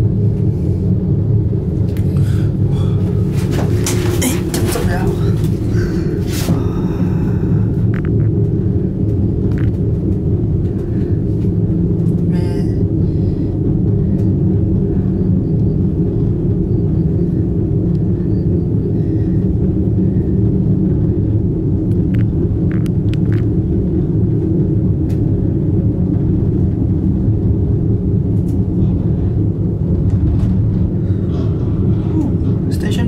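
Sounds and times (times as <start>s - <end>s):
cable car cabin rumble: 0.0s - 33.0s.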